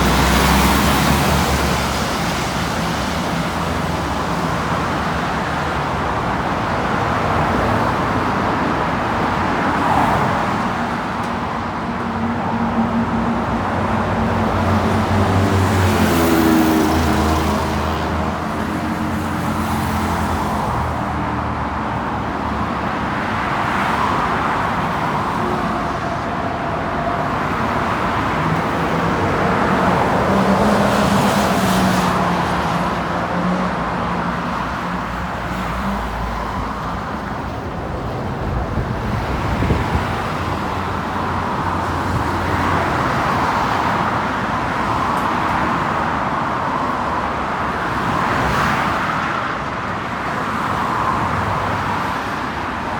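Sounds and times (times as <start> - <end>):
road traffic passing: 0.0 - 52.9.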